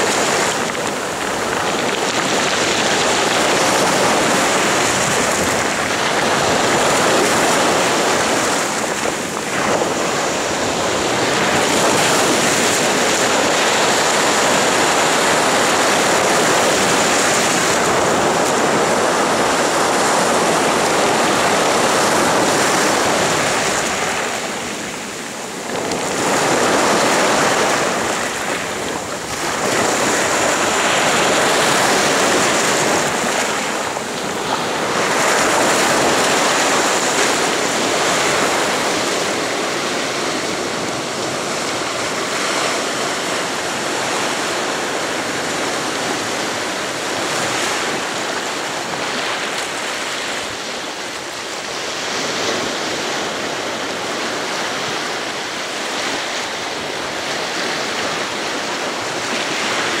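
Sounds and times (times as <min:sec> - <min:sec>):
surf breaking and washing ashore: 0:00.0 - 1:00.0.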